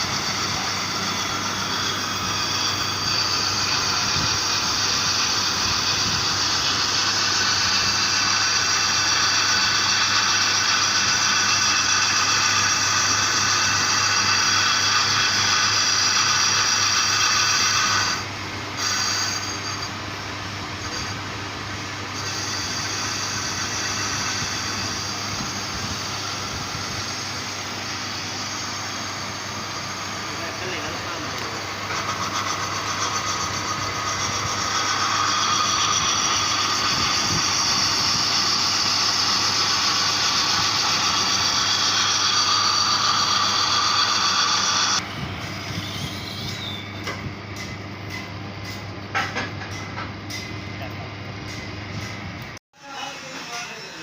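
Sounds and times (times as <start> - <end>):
high-pitched whine: 0.0 - 48.2.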